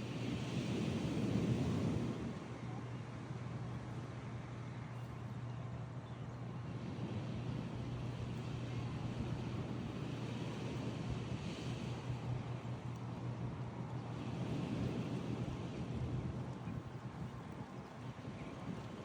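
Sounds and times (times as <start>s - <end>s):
constant low rumble: 0.0s - 19.0s
wind: 0.0s - 19.0s.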